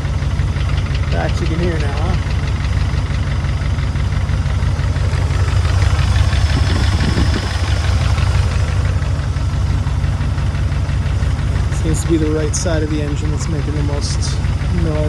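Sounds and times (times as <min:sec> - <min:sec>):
car engine idling: 0:00.0 - 0:15.0
rapid valve ticking: 0:00.1 - 0:15.0.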